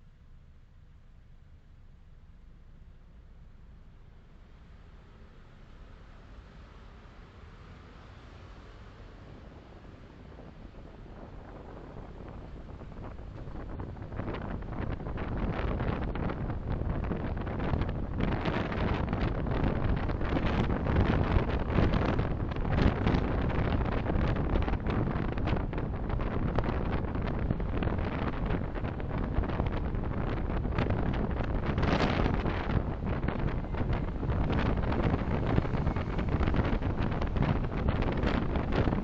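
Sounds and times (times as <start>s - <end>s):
car road and wind noise: 0.0s - 39.0s.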